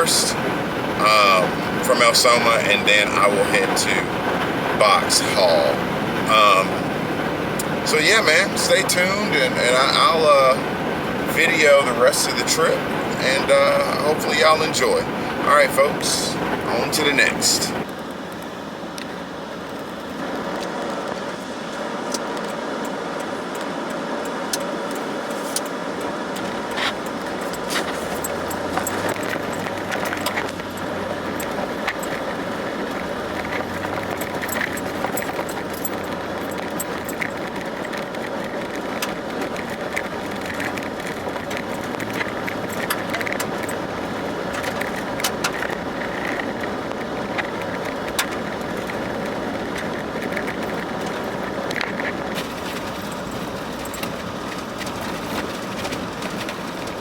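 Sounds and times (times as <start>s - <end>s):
light rattles and jingling clicks: 0.0s - 57.0s
road noise inside moving vehicle: 0.0s - 57.0s.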